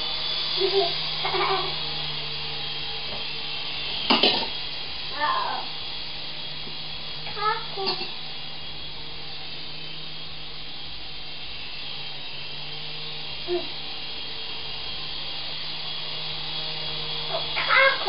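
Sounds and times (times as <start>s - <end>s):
toy helicopter buzzing whine: 0.0s - 18.0s.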